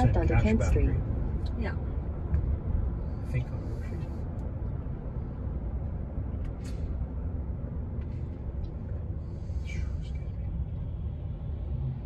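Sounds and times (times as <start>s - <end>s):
car engine noise: 0.0s - 12.0s
road rumble inside car: 0.0s - 12.0s.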